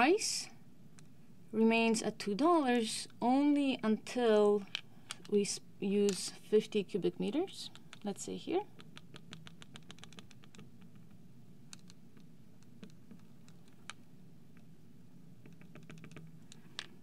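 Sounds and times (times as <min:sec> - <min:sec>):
faint low room hum: 0:00.0 - 0:17.0.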